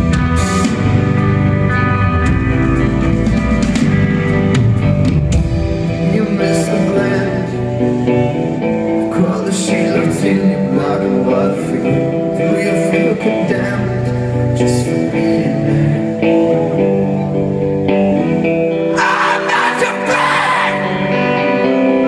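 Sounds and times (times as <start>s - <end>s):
live rock band: 0.0s - 22.0s.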